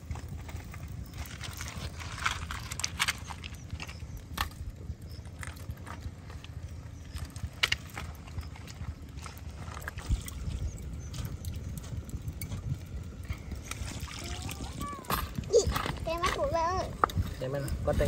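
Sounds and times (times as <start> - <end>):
low steady rumble: 0.0 - 18.0
pebbles and charcoal clacking: 0.0 - 18.0.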